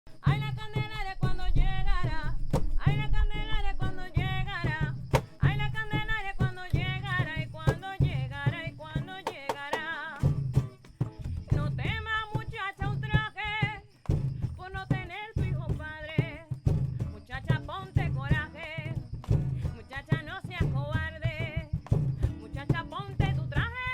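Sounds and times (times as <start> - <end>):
acoustic guitar: 0.1 - 23.9.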